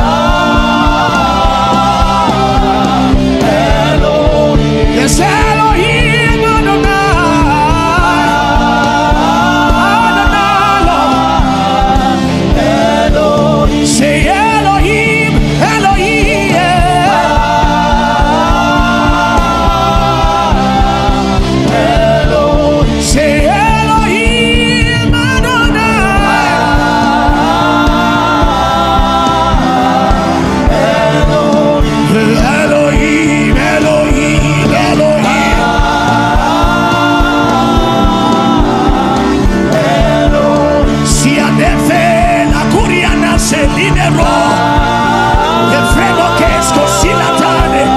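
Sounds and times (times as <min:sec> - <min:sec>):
gospel singing: 0:00.0 - 0:47.9
instrumental backing with steady beat: 0:00.0 - 0:47.9.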